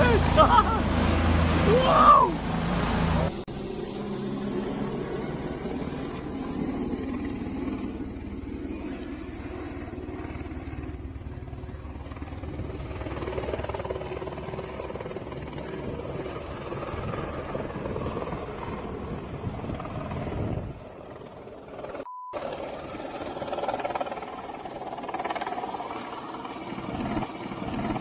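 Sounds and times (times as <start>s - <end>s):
helicopter flying low: 0.0s - 28.0s.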